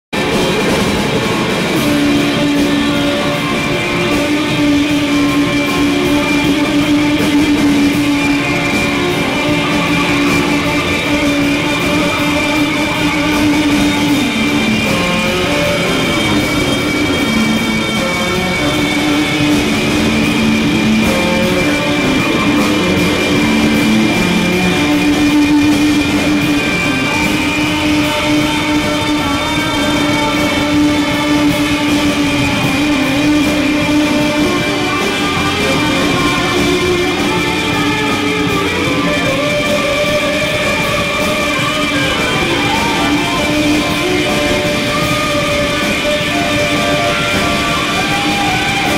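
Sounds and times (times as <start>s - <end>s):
rock band electric guitars: 0.1s - 48.9s.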